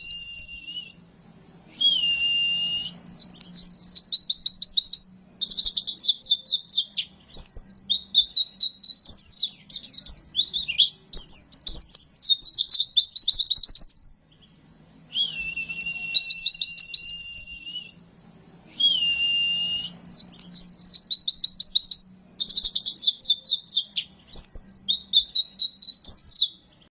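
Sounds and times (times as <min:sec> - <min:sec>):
long flat whistles: 0:00.0 - 0:01.1, 0:01.7 - 0:14.3, 0:15.0 - 0:18.0, 0:18.7 - 0:23.6
bird chattering song: 0:00.0 - 0:26.9
faint low hum: 0:00.0 - 0:26.9.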